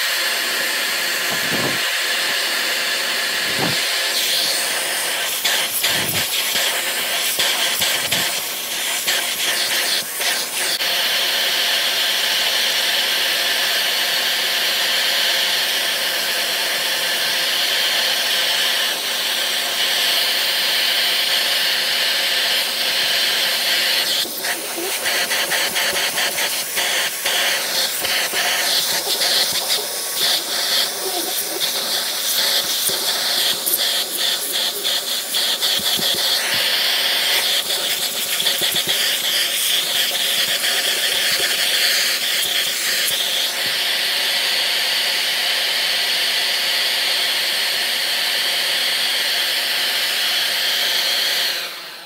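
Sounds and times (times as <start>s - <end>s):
handheld vacuum cleaner hissing: 0.0s - 52.0s.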